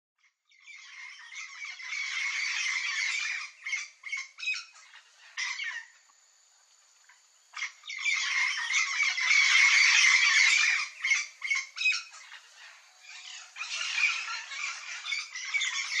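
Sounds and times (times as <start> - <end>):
parrots squawking: 0.7 - 5.9, 7.6 - 16.0.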